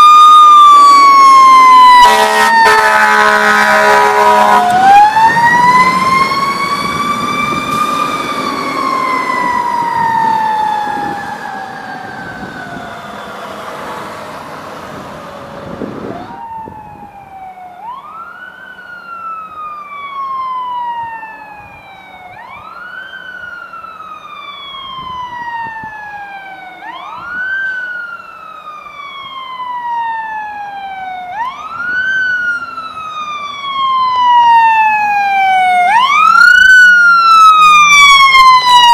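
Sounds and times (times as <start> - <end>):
fire engine siren: 0.0 - 38.9
siren wail: 0.0 - 38.9.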